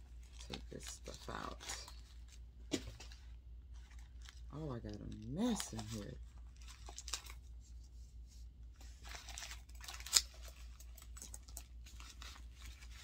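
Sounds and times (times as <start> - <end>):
wrapping rustling and crinkling: 0.0 - 13.0.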